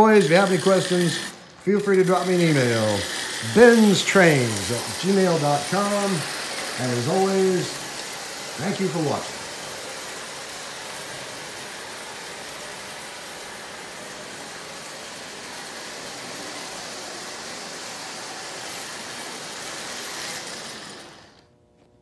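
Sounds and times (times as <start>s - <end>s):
toy train rolling on track: 0.0s - 21.5s.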